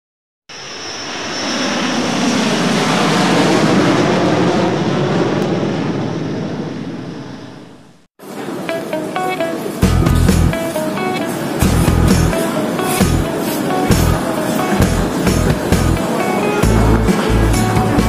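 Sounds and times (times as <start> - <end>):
airplane engine passing: 0.5 - 18.0
high whine: 0.5 - 18.0.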